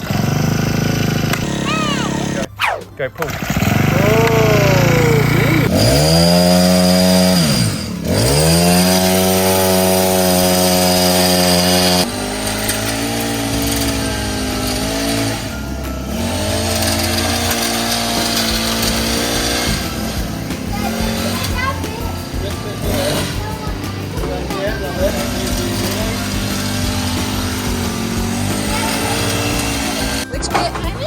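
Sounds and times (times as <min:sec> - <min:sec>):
hedge trimmer petrol engine running: 0:00.0 - 0:31.0.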